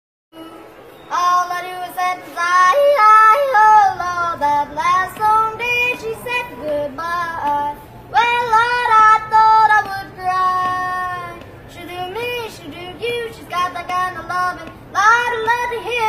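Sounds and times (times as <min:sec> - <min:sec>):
boy yodel singing: 0:00.4 - 0:16.0.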